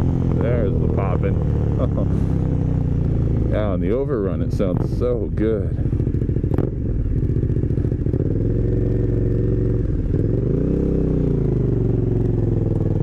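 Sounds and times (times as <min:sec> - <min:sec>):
motorcycle engine revving while riding: 0:00.0 - 0:13.0.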